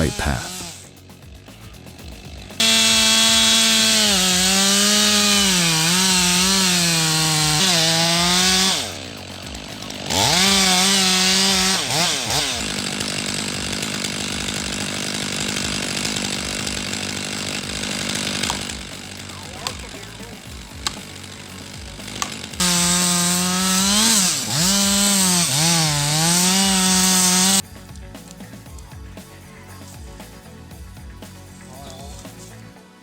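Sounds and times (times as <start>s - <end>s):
chainsaw running: 0.0s - 33.0s.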